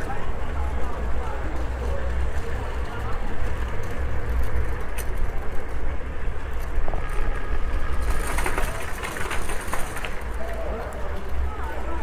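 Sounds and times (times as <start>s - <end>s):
faint voices of passers-by: 0.0s - 12.0s
wind and wheels rumbling: 0.0s - 12.0s.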